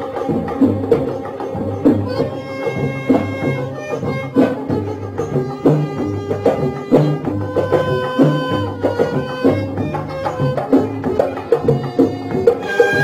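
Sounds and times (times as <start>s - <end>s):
ensemble playing a melody: 0.0s - 13.0s
hand drum rhythm: 0.0s - 13.0s.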